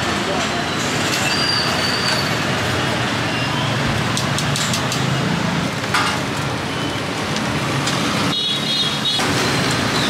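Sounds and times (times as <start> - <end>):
street traffic: 0.0 - 10.0.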